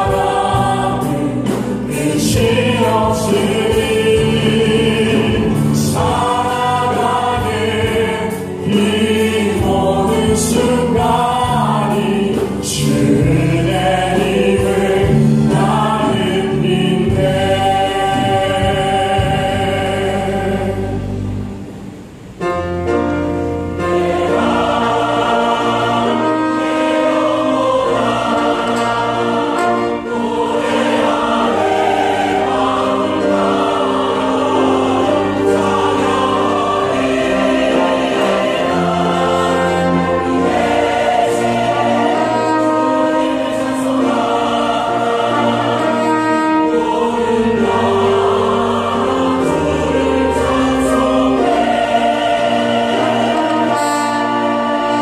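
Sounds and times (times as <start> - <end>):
choir singing: 0.0 - 21.8, 23.0 - 55.0.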